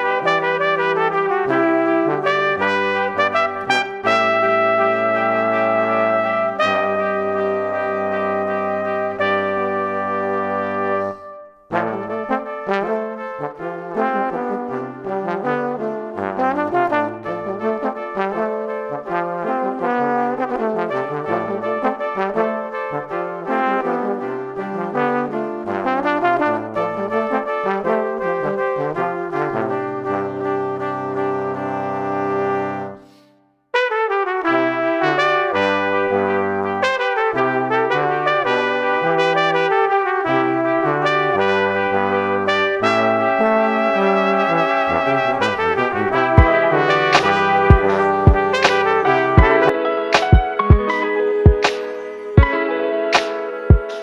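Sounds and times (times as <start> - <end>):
background music with brass: 0.0 - 33.2, 33.8 - 54.0.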